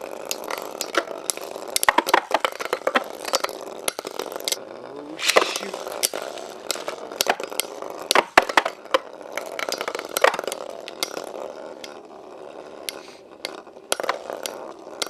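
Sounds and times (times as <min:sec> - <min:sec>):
spinning tops clacking together: 0:00.0 - 0:04.6, 0:05.2 - 0:15.0
spinning tops whirring: 0:00.0 - 0:15.0.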